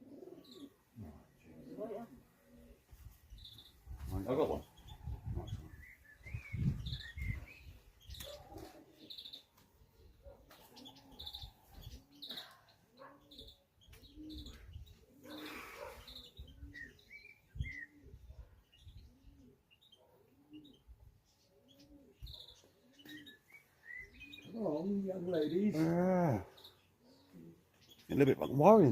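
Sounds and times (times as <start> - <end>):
pigeons cooing: 0.0 - 28.9
small birds chirping: 0.0 - 28.9.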